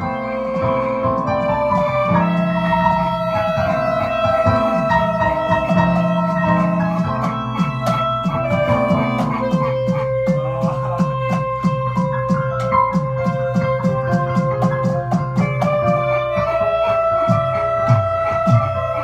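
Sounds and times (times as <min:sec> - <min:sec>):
clarinets playing sustained melody: 0:00.0 - 0:19.0
keyboard chords: 0:00.0 - 0:19.0.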